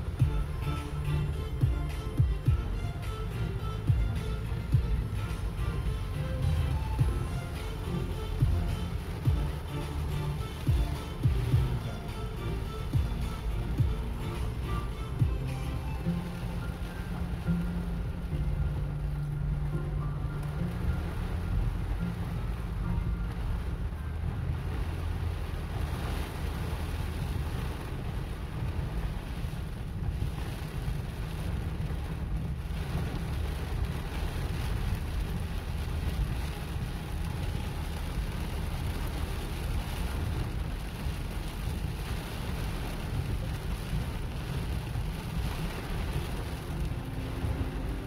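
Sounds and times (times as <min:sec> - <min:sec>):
car rumbling on wet road: 0:00.0 - 0:48.0
heavy rain on car roof: 0:00.0 - 0:48.0.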